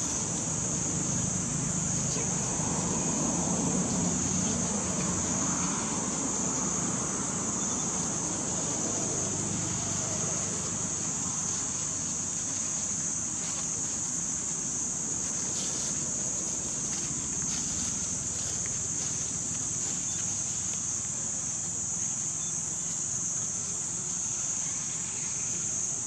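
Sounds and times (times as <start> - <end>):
insects buzzing: 0.0 - 26.0.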